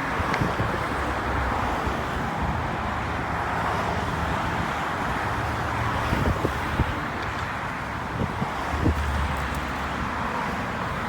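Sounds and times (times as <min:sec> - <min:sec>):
wind gusting on microphone: 0:00.0 - 0:03.0, 0:03.6 - 0:10.2
road traffic hum: 0:00.0 - 0:11.0.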